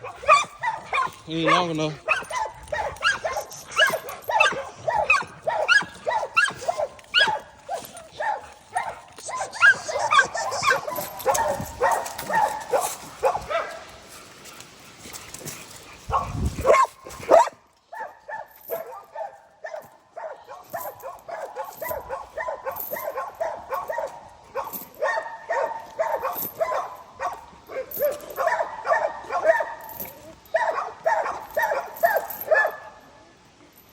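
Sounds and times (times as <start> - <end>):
dogs barking and yipping: 0.0 - 14.2, 15.2 - 33.0.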